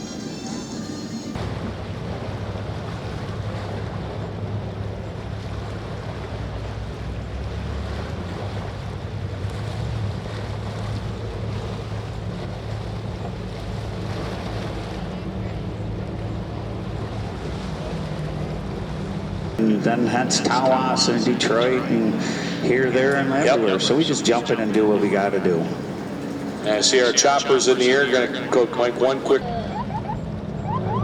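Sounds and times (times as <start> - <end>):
boat engines droning: 0.0 - 31.0
water rushing: 1.4 - 29.8.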